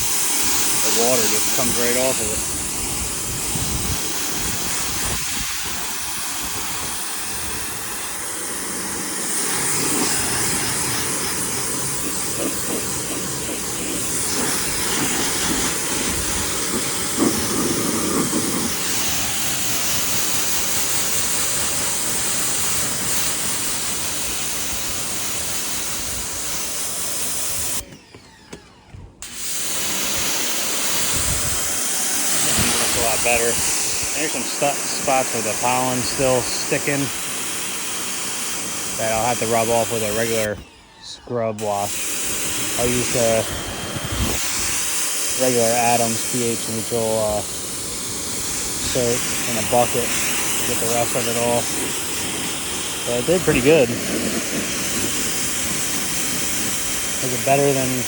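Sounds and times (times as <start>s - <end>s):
pressure washer spraying water: 0.0s - 28.0s, 29.2s - 40.7s, 41.5s - 58.0s.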